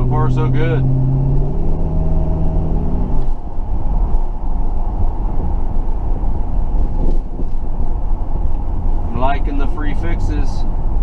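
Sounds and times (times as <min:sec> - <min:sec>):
car engine hum: 0:00.0 - 0:11.0
road and tyre noise: 0:00.0 - 0:11.0.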